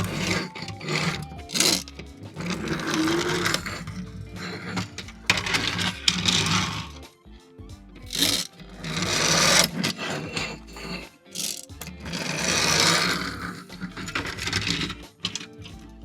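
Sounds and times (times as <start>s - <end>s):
rasping rustling handling noise: 0.0s - 7.0s, 8.0s - 15.8s
background music with low bass: 0.0s - 16.0s.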